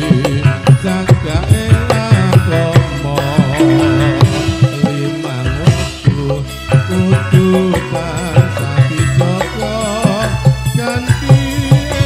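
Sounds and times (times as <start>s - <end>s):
frame drums beating: 0.0s - 12.0s
man singing into a microphone: 0.0s - 12.0s.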